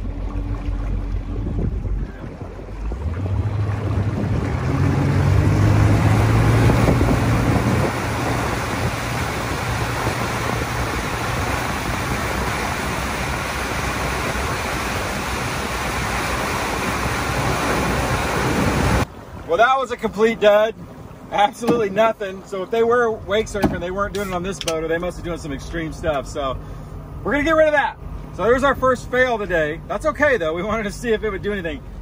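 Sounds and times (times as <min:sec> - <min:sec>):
boat engine drone: 0:00.0 - 0:32.0
churning wake water: 0:00.0 - 0:32.0
wind: 0:00.0 - 0:32.0.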